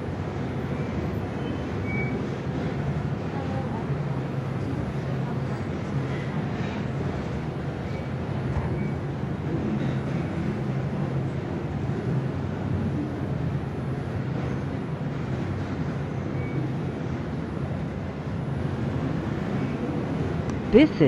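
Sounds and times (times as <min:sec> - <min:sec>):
subway car wheels rumbling on rail: 0:00.0 - 0:21.0.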